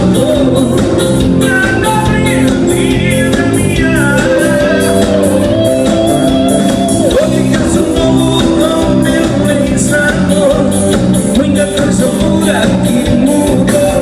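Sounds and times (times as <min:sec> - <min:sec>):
guitar: 0:00.0 - 0:14.0
person singing: 0:00.0 - 0:14.0
steady beat: 0:00.0 - 0:14.0.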